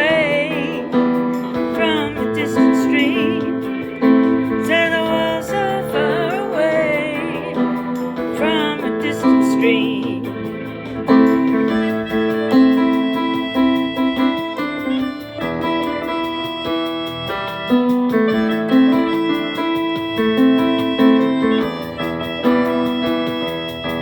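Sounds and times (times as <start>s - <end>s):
keyboard playing chords and melody: 0.0s - 24.0s.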